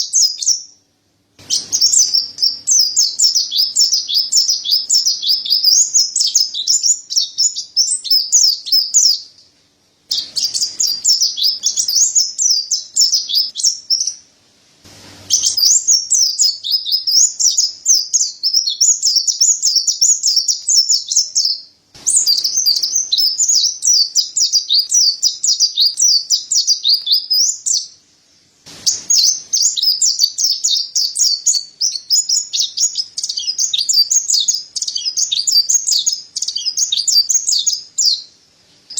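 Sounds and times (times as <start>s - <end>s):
bird twittering song: 0.0s - 0.8s, 1.4s - 9.5s, 10.1s - 14.2s, 15.3s - 28.0s, 28.8s - 38.4s.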